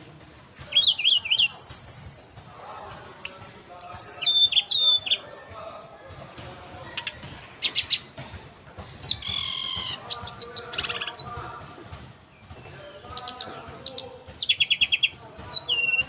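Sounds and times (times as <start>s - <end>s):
songbird singing: 0.0s - 2.3s, 3.2s - 5.8s, 6.4s - 16.0s.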